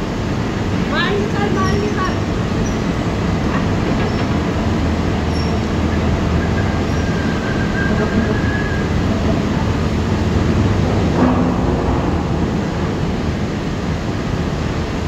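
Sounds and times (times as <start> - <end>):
crane machinery rumbling: 0.0 - 15.0.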